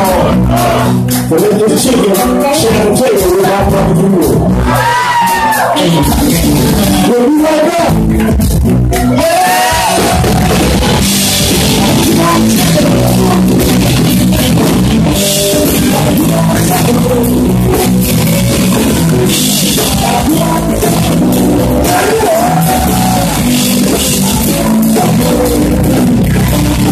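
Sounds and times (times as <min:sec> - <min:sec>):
bass guitar: 0:00.0 - 0:26.9
drum kit: 0:00.0 - 0:26.9
electric guitars: 0:00.0 - 0:26.9.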